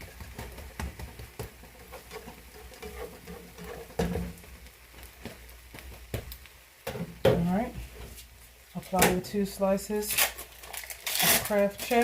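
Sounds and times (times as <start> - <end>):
omelet sizzling in a pan: 0.0 - 12.0.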